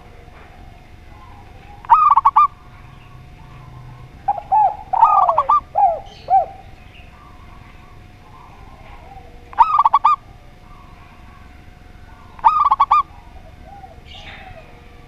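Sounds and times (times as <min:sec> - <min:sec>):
doves cooing: 0:00.0 - 0:15.0
faint steady hum: 0:00.0 - 0:15.0.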